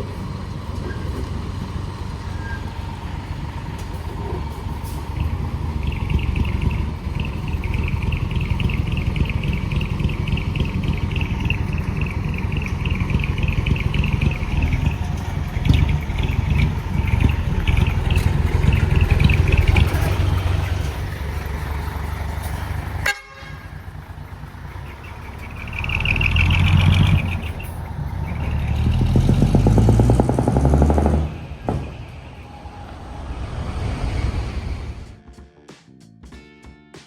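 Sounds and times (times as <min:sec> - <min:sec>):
unmuffled diesel truck engine: 0:00.0 - 0:35.2.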